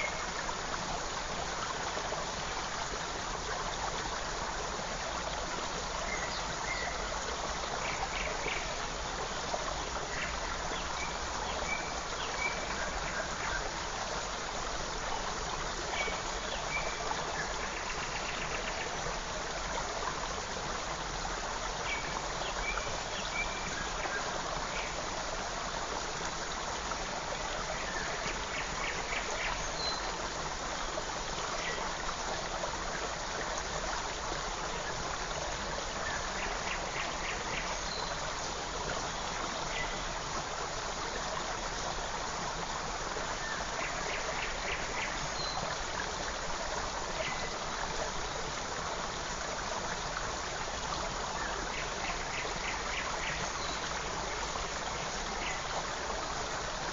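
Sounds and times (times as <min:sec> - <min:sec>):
creek water running: 0:00.0 - 0:56.9.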